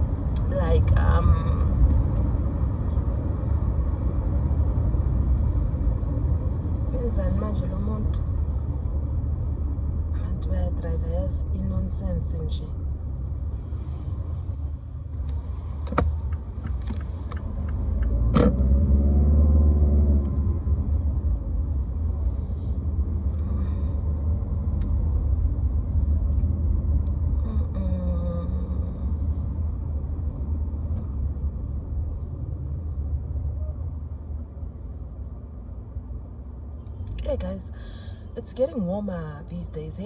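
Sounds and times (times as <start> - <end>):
road and engine rumble inside car: 0.0 - 40.0.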